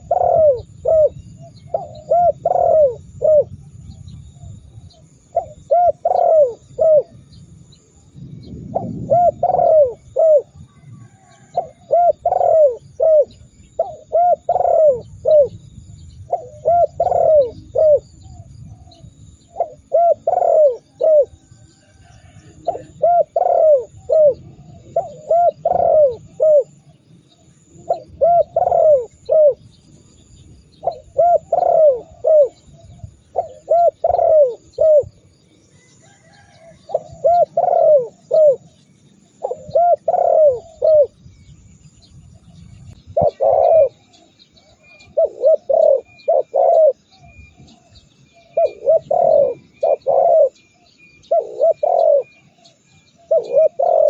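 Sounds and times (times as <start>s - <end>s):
doves cooing: 0.0s - 3.7s, 4.4s - 41.2s, 42.9s - 54.0s
small birds chirping: 0.0s - 54.0s.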